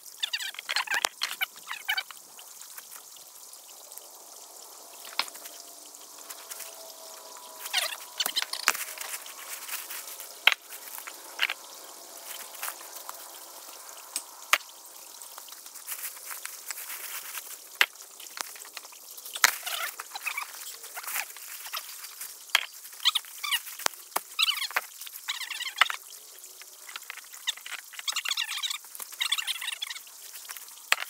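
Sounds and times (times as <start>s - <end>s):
faint trickle of creek water: 0.0s - 31.0s
frogs trilling: 0.0s - 31.0s.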